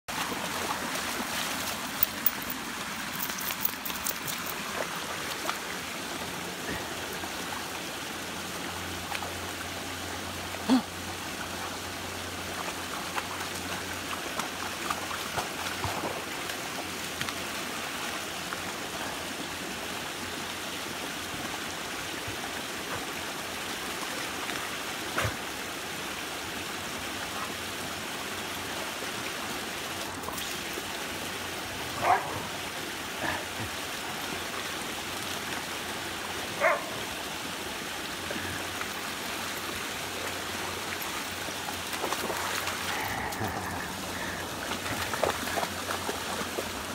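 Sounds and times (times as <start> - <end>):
stream pouring over waterfall: 0.1 - 46.9.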